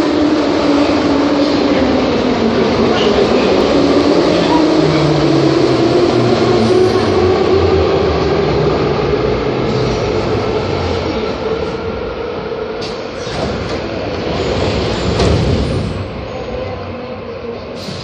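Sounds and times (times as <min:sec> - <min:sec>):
metro train rumbling on rails: 0:00.0 - 0:18.0.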